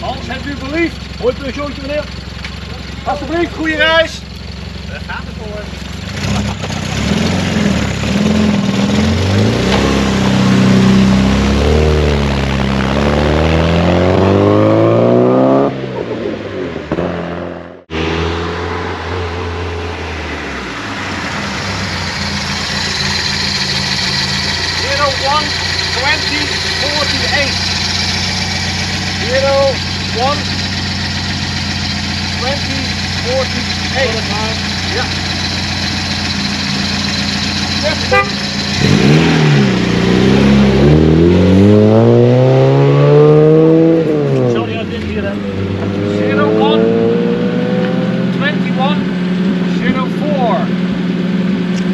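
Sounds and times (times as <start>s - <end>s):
rally car engine running: 0.0s - 51.9s.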